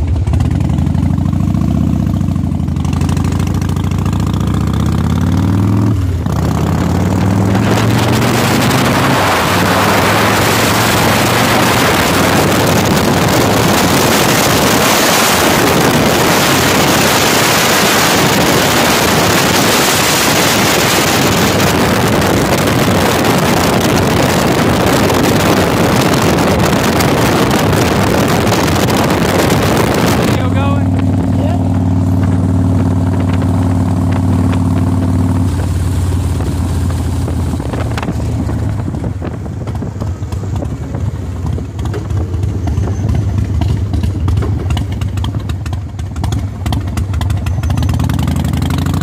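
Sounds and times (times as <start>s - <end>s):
motorcycle engine revving: 0.0s - 49.0s
wind rushing over microphone: 4.8s - 47.1s.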